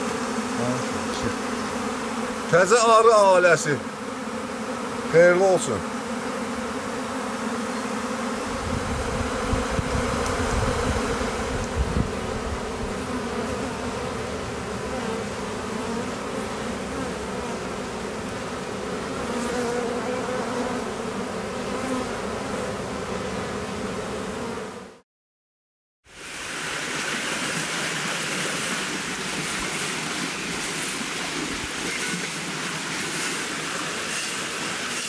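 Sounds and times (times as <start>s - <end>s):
honeybees buzzing: 0.0s - 25.0s, 26.1s - 35.0s.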